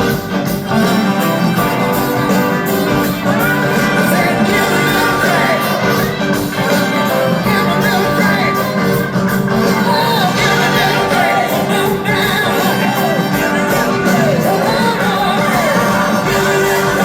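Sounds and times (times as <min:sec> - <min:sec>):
live rock band playing: 0:00.0 - 0:17.0
sliding lead guitar line: 0:00.0 - 0:17.0.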